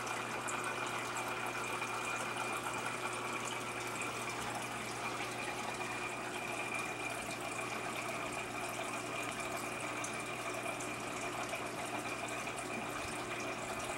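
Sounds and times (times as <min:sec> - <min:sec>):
trickling splashing water: 0:00.0 - 0:13.9.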